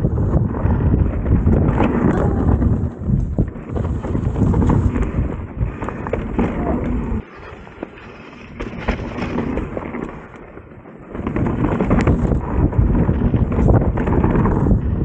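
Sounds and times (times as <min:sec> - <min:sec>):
bike rattling and clicking: 0:00.0 - 0:15.0
bike tyres rumbling: 0:00.0 - 0:15.0
wind buffeting microphone: 0:00.0 - 0:15.0.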